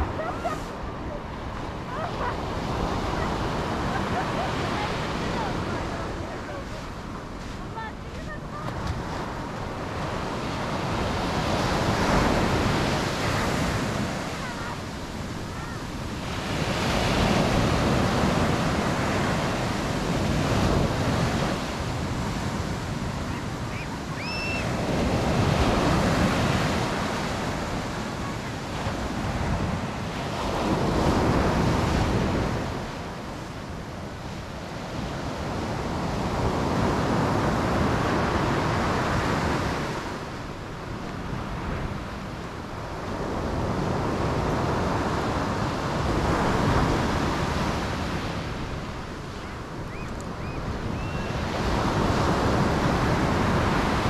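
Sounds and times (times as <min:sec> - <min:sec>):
waves breaking on sand: 0:00.0 - 0:54.0.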